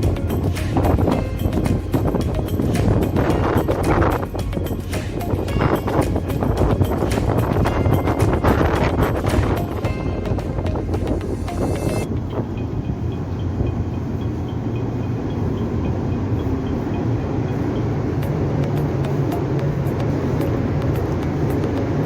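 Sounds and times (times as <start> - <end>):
background music: 0.0 - 13.5, 17.0 - 22.0
ship engines rumbling: 0.0 - 22.0.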